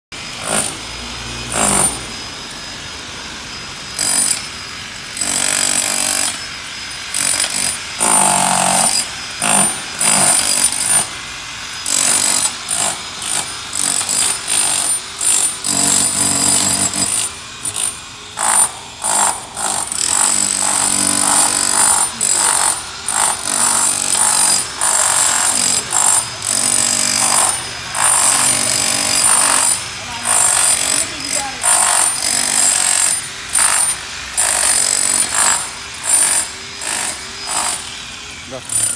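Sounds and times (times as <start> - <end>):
pneumatic chipping hammer on stone: 0.2 - 38.9.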